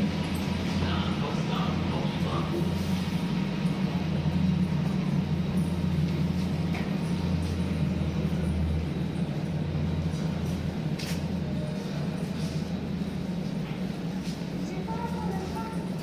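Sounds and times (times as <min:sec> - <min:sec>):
electric train humming: 0:00.0 - 0:16.0
station noise: 0:00.0 - 0:16.0.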